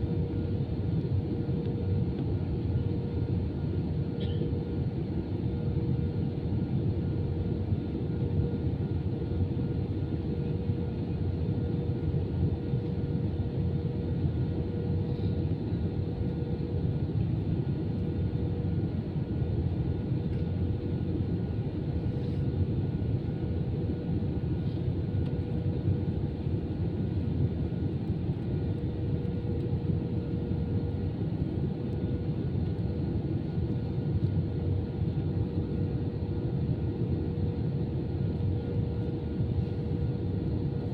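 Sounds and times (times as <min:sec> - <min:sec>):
airplane cabin drone: 0:00.0 - 0:40.9
faint steady hum: 0:00.0 - 0:40.9.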